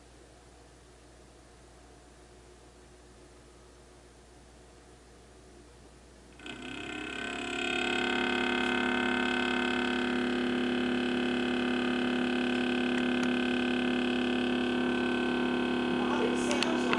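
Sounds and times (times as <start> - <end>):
refrigerator humming drone: 0.0 - 16.9.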